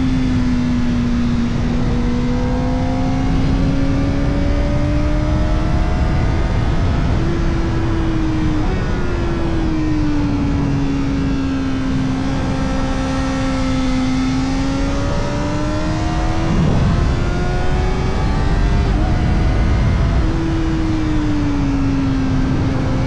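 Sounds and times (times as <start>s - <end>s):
motorcycle engine at high revs: 0.0s - 23.0s
wind rush: 0.0s - 23.0s.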